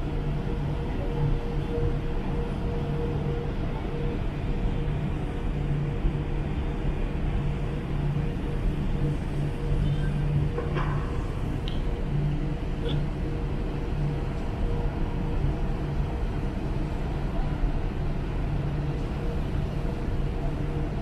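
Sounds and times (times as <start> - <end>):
low mechanical drone: 0.0 - 21.0.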